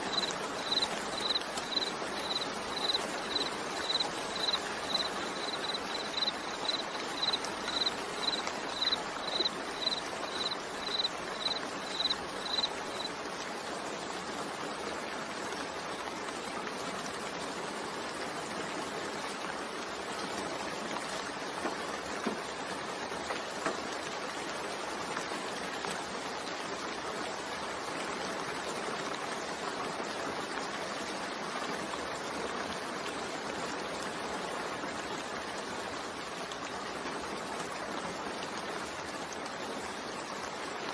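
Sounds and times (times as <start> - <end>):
steady rain hissing: 0.0 - 40.9.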